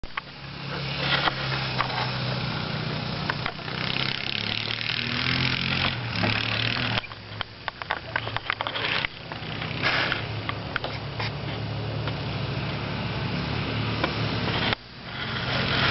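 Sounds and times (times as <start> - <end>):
engine running and revving: 0.0 - 15.9.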